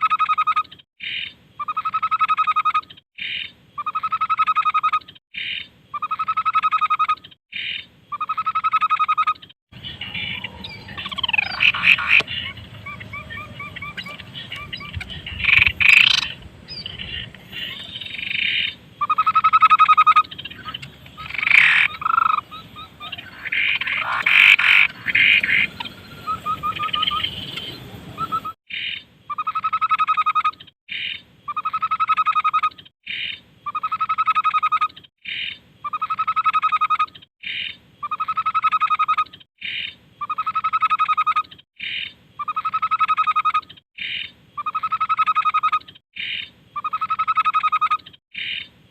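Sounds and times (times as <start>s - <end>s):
babbler chirps and calls: 0.2s - 48.7s.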